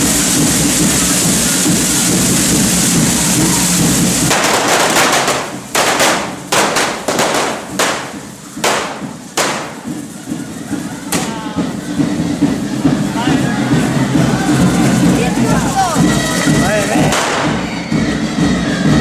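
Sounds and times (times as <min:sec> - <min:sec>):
firecracker bangs: 0:00.0 - 0:18.2
spark-spraying fireworks hissing: 0:00.0 - 0:19.0.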